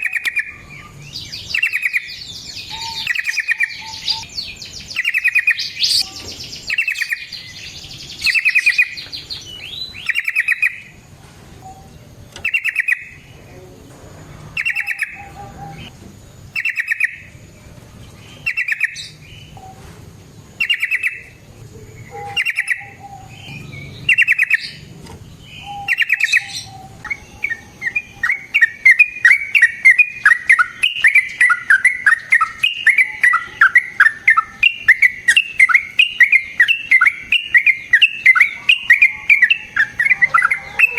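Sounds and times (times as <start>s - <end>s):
bird chattering notes: 0.0s - 9.3s, 9.9s - 11.0s, 12.4s - 13.3s, 14.6s - 16.0s, 16.6s - 17.3s, 18.4s - 19.8s, 20.6s - 24.9s, 25.5s - 40.9s
bird singing bubbly phrases: 0.0s - 11.0s, 11.7s - 13.6s, 14.6s - 16.0s, 16.6s - 17.4s, 18.1s - 19.8s, 20.5s - 40.9s.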